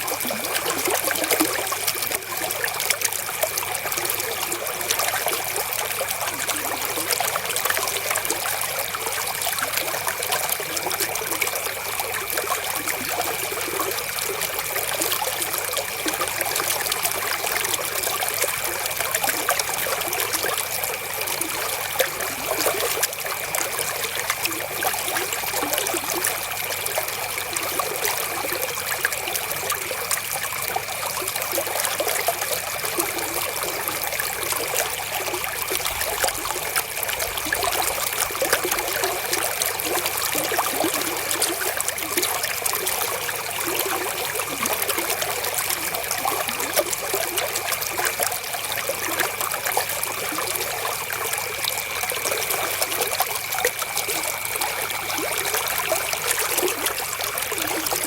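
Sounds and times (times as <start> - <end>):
river water trickling over stones: 0.0 - 58.0.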